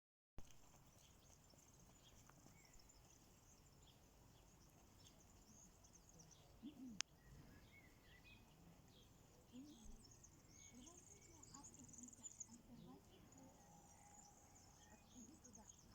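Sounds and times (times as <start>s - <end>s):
faint birds chirping: 0.4s - 15.9s.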